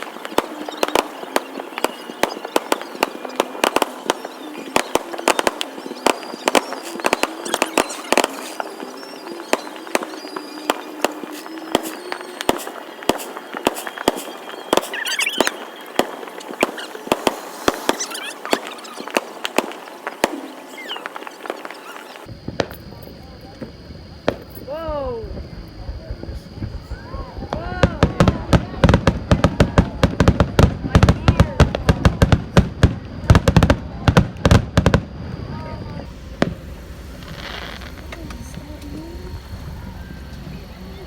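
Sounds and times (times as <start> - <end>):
fireworks crackle: 0.0 - 41.0
fireworks popping and banging: 0.0 - 41.0.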